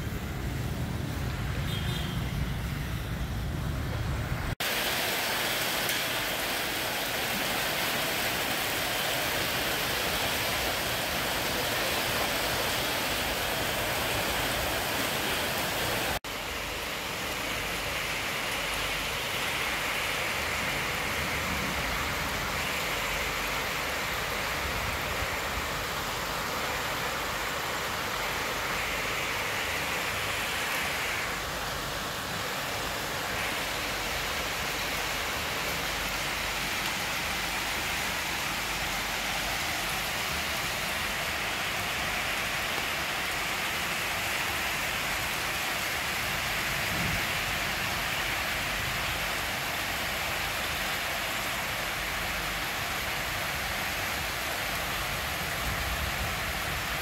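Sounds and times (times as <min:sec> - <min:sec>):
rain on rooftops and street: 0:00.0 - 0:57.0.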